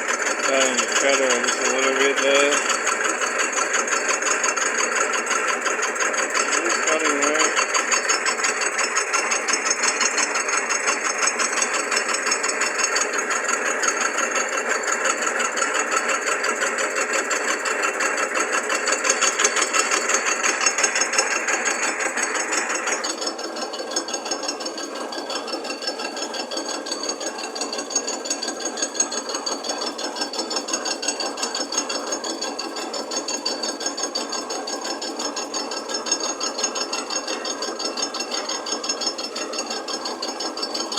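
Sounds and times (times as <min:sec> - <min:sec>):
rapid machining chatter: 0:00.0 - 0:40.9.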